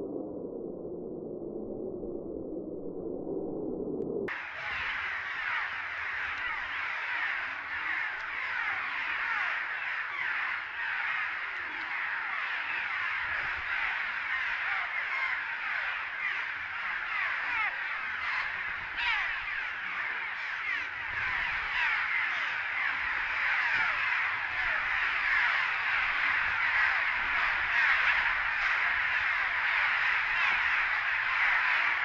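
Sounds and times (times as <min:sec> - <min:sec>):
swallow colony calling: 0:04.3 - 0:32.0.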